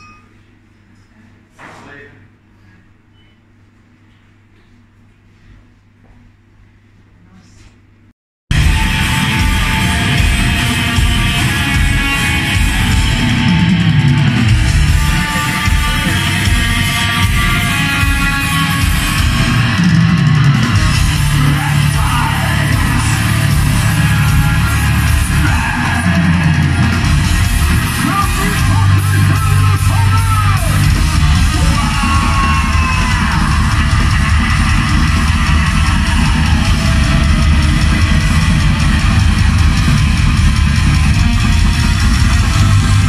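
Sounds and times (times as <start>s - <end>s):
bass guitar: 8.5s - 43.0s
distorted electric guitars: 8.5s - 43.0s
fast drumming: 8.5s - 43.0s
yelled vocals: 8.5s - 43.0s.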